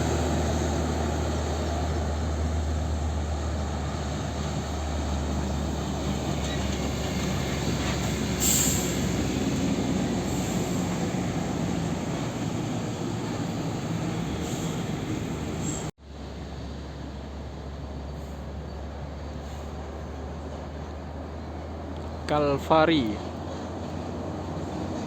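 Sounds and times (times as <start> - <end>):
truck engines running: 0.0 - 25.0.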